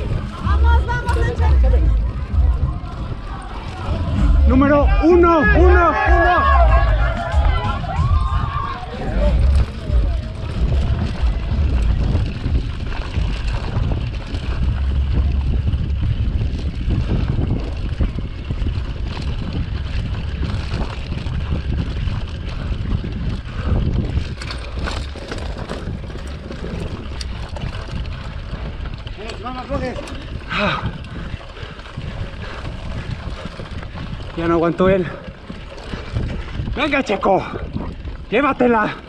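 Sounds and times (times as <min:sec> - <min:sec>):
bicycle knocks and rattles: 0:00.0 - 0:39.0
tyres rumbling on rough ground: 0:00.0 - 0:39.0
wind buffeting microphone: 0:00.0 - 0:39.0.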